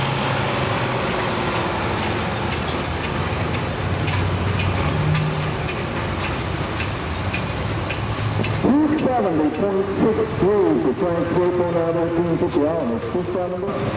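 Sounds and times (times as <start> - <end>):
tractor engine idling: 0.1 - 13.9.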